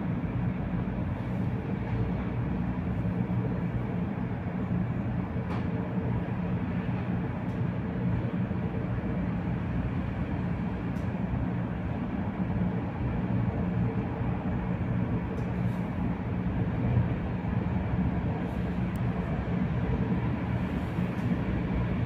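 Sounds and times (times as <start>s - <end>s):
low hum inside tram: 0.0s - 22.0s.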